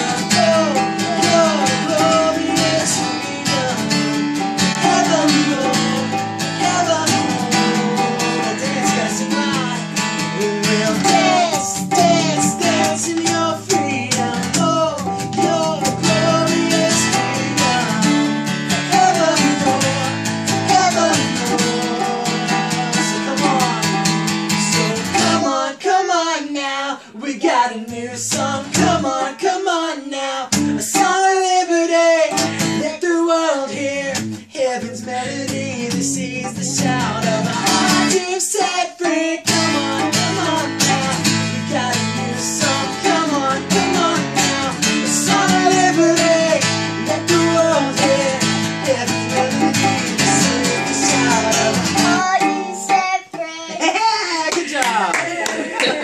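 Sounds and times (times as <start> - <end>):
acoustic guitars strumming chords: 0.0 - 26.1, 27.4 - 54.0.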